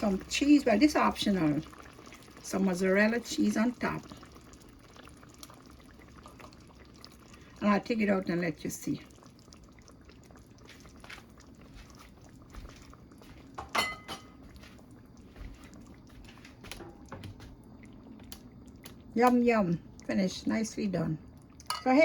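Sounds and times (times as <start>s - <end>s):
sauce bubbling in pan: 0.0s - 22.0s.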